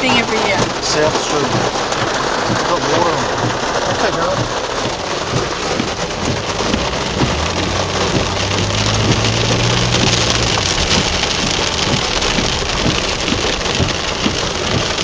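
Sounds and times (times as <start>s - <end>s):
heavy rain pouring: 0.0s - 15.0s
vehicle engine humming: 0.0s - 15.0s.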